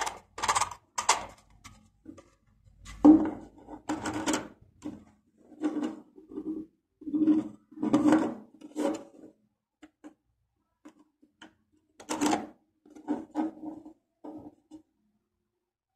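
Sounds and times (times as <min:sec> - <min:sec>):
plastic parts knocking and scraping: 0:00.0 - 0:14.9.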